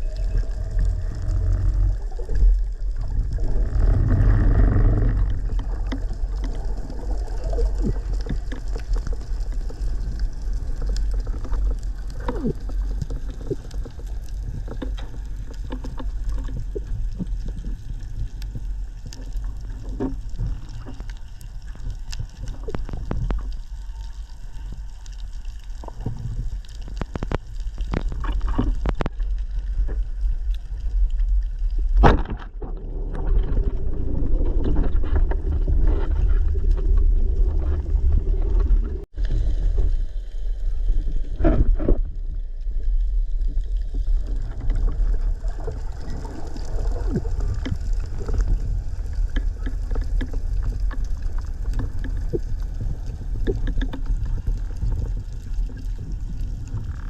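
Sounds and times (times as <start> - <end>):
clicks and crackles: 0.0 - 57.0
underwater rumble of moving water: 0.0 - 57.0.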